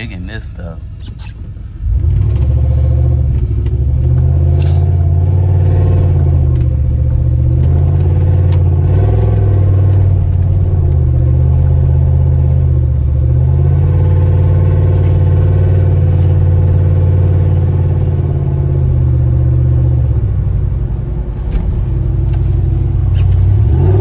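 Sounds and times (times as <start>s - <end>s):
loud deep exhaust drone: 0.0s - 24.0s.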